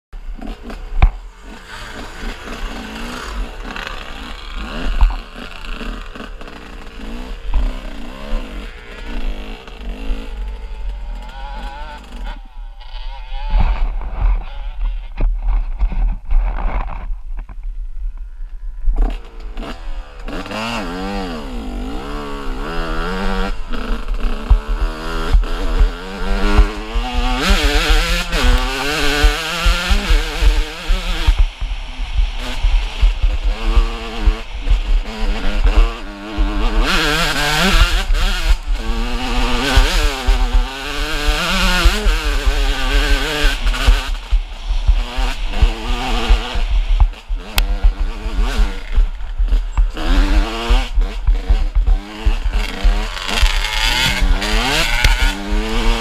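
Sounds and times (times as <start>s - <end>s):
dirt bike engine revving: 0.2s - 15.2s, 19.0s - 56.0s.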